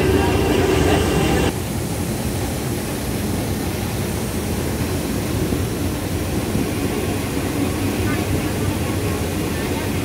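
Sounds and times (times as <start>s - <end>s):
diesel locomotive running: 0.0s - 10.0s.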